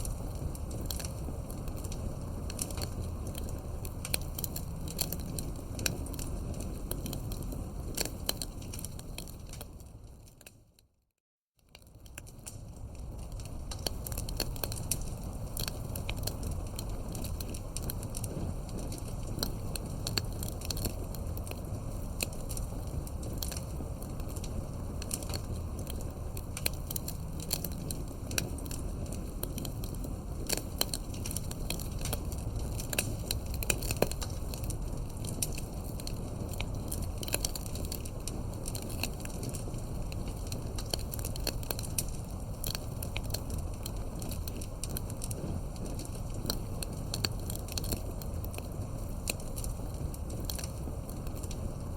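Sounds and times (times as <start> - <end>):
wood crackling and popping: 0.0 - 10.9, 11.6 - 51.9
low rumble of flame: 0.0 - 11.0, 11.6 - 51.9.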